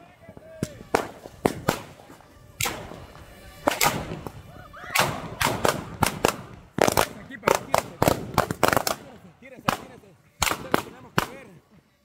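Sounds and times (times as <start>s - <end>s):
firecrackers banging: 0.0s - 11.6s.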